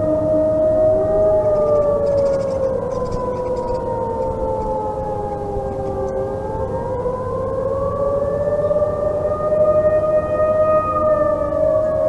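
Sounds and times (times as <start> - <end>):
warning sirens wailing: 0.0 - 12.0.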